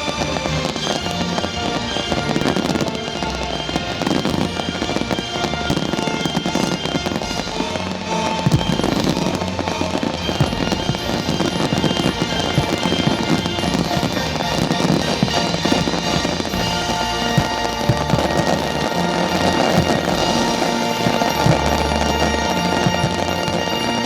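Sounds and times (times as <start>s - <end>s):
fireworks bursting and crackling: 0.0s - 24.0s
loud music: 0.0s - 24.0s.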